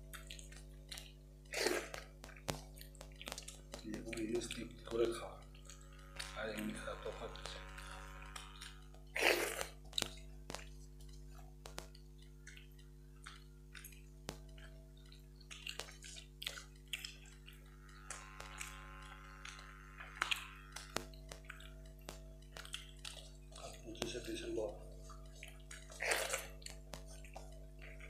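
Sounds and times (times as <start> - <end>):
fingers mixing rice on metal plates: 0.0 - 28.0
mouths chewing: 0.0 - 28.0
steady low hum: 0.0 - 28.0.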